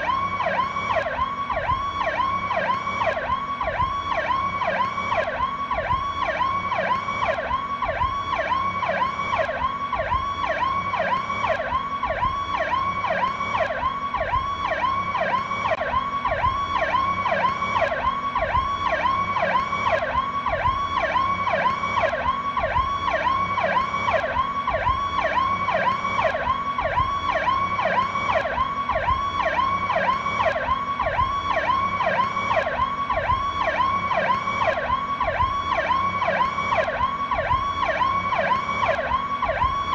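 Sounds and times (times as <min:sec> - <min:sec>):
police siren sweeping up and down: 0:00.0 - 0:39.9.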